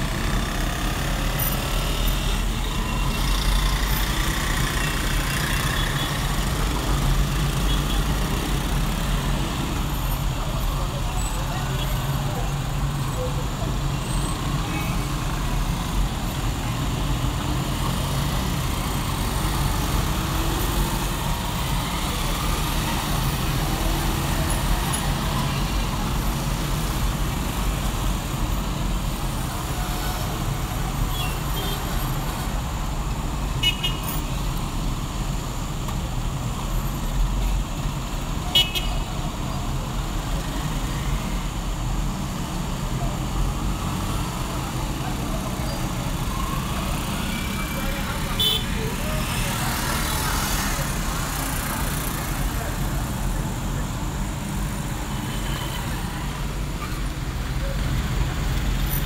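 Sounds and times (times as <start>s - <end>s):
traffic engines rumbling: 0.0s - 59.0s.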